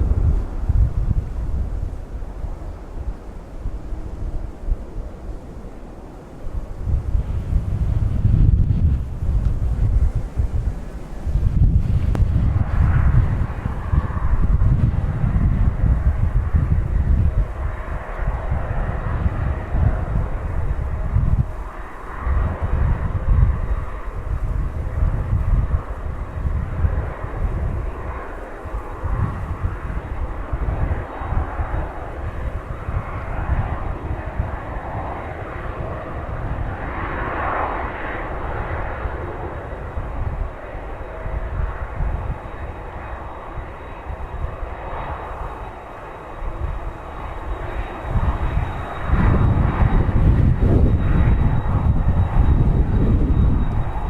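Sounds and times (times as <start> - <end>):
jet engines whining: 0.0 - 54.0
wind rumbling on microphone: 0.0 - 54.0.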